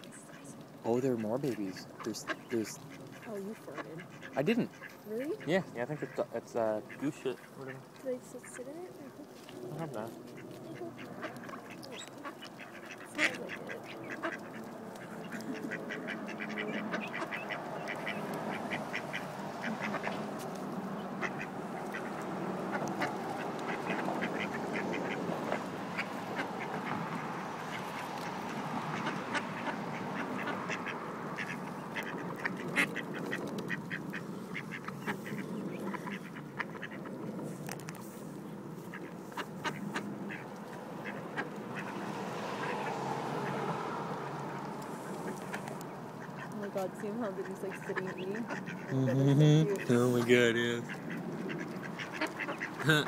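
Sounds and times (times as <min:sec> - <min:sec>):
bills pecking on pavement: 0:00.0 - 0:06.2, 0:06.8 - 0:48.9, 0:49.7 - 0:52.9
ducks quacking softly: 0:00.0 - 0:53.0.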